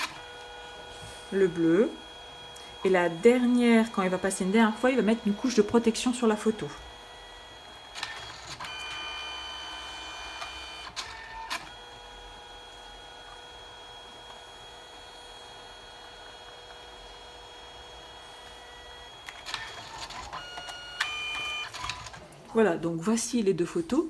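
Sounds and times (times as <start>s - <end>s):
printer motor hum: 0.0s - 22.3s
printer whirring: 0.0s - 22.4s.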